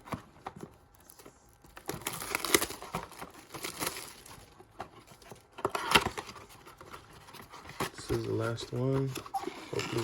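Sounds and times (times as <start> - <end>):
packaging crinkling and tearing: 0.6 - 10.0.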